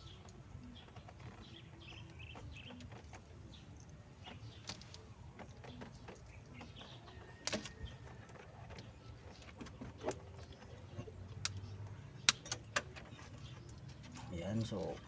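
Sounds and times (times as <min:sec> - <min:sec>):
light handling clicks and rustles: 0:00.0 - 0:15.0.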